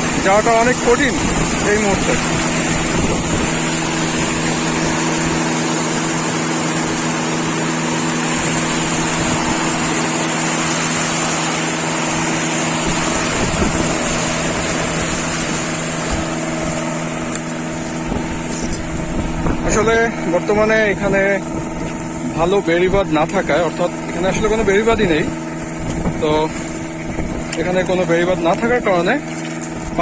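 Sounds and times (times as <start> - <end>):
engine running steadily: 0.0 - 30.0
steady rushing noise: 0.0 - 30.0.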